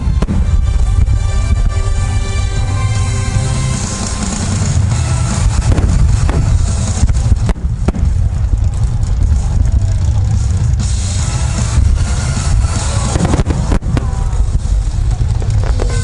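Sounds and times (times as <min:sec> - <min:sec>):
sharp firework cracks: 0:00.0 - 0:02.1, 0:03.5 - 0:16.0
fireworks booming: 0:00.0 - 0:16.0.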